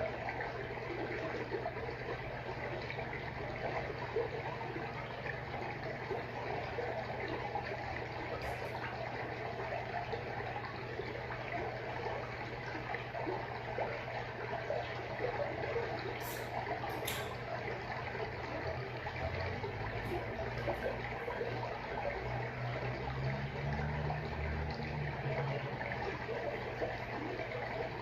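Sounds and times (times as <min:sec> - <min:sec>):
aquarium water trickling and bubbling: 0:00.0 - 0:28.0
low even hum: 0:00.0 - 0:28.0.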